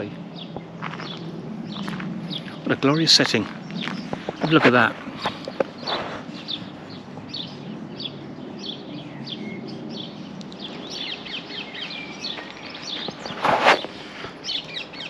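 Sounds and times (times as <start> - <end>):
low steady background hum: 0.0 - 15.0
small birds chirping: 0.0 - 15.0.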